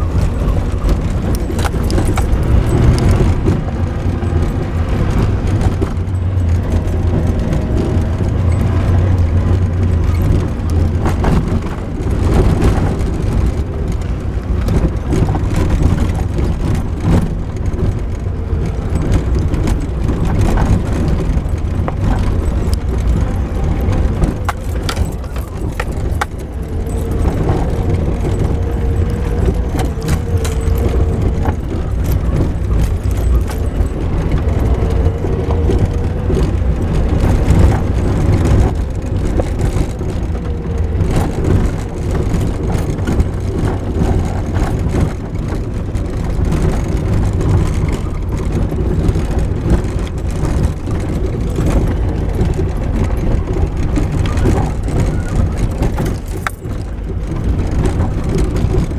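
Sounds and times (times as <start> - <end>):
engine and tyre rumble on gravel: 0.0 - 58.9
rattles and knocks: 0.0 - 58.9.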